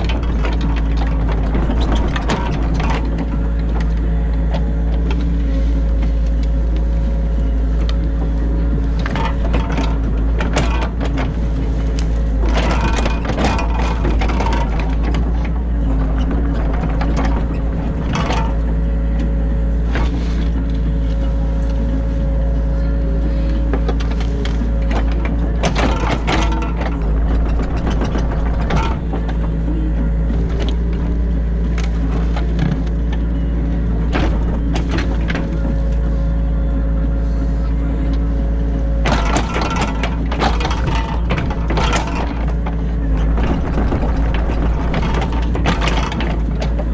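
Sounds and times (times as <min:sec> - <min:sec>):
digging gear clanks and knocks: 0:00.0 - 0:46.9
excavator diesel engine running: 0:00.0 - 0:46.9.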